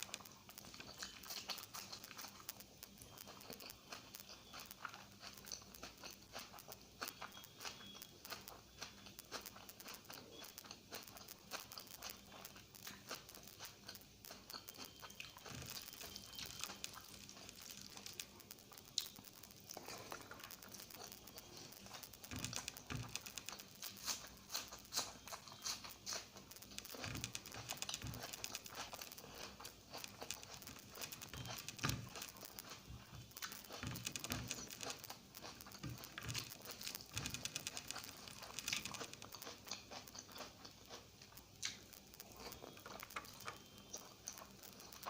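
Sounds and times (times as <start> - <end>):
small crackling clicks: 0.0 - 45.0
wet chewing: 0.0 - 45.0.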